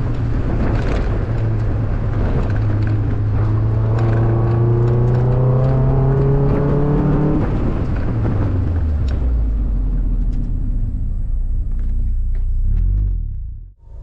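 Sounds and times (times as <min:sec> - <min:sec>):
car engine pulling under load: 0:00.0 - 0:14.0.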